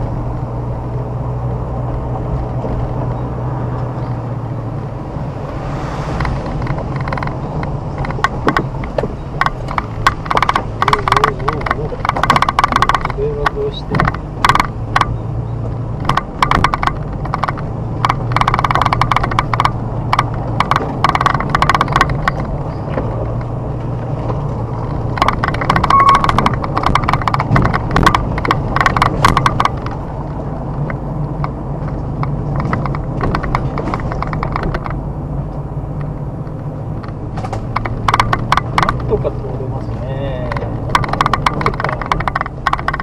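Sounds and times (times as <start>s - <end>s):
car engine and road hum: 0.0s - 43.0s
rapid knocking and rattling: 5.6s - 35.1s, 36.4s - 43.0s.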